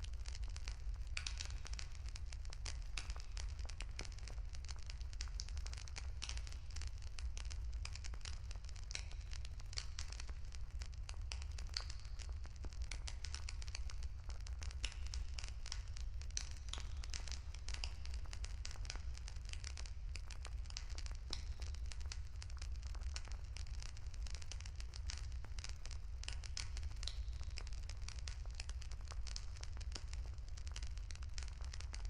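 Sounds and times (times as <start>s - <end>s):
low fire rumble: 0.0s - 32.0s
wood bonfire crackling: 0.0s - 32.0s.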